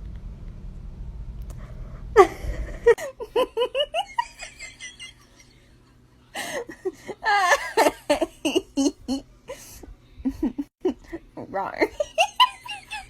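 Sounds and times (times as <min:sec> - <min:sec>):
person laughing: 0:02.2 - 0:13.0.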